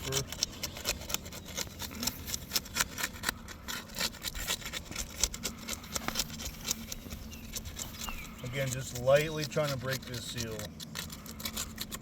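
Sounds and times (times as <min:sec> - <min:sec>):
roof shingle seal crackling: 0:00.0 - 0:12.0.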